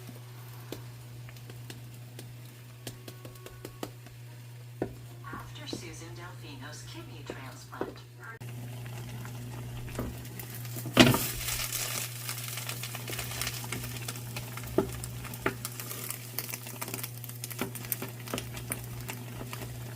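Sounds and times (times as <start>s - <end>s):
egg sizzling in a frying pan: 0.0s - 5.8s, 7.3s - 19.9s
steady low hum: 0.0s - 19.9s.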